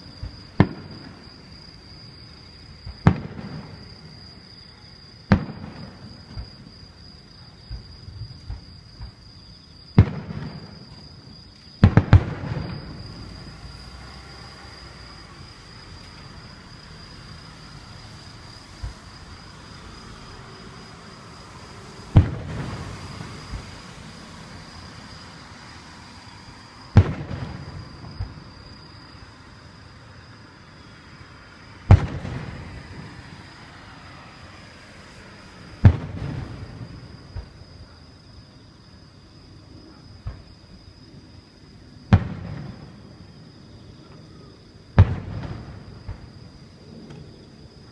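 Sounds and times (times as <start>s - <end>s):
fireworks booming: 0.0s - 29.3s, 31.7s - 37.9s, 40.2s - 40.8s, 42.0s - 47.9s.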